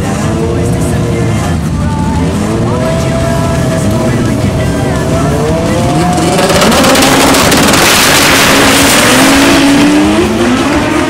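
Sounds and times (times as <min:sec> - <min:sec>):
drag car accelerating: 0:00.0 - 0:11.0.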